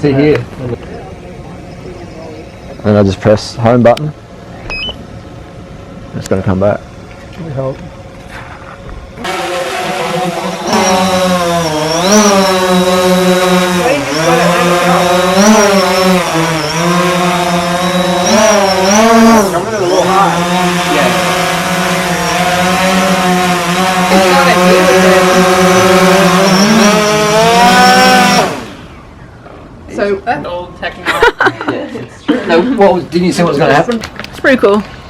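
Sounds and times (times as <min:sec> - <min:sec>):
drone propellers buzzing: 0:00.0 - 0:29.8.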